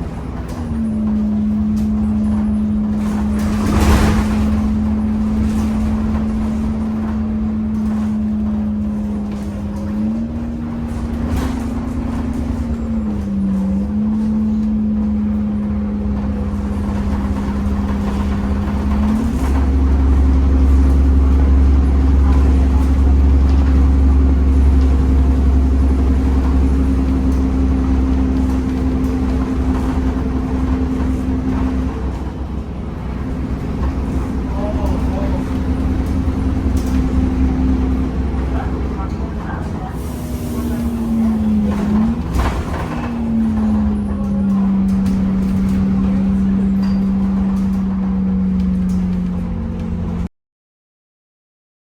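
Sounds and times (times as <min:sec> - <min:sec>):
city bus engine droning: 0:00.0 - 0:50.3.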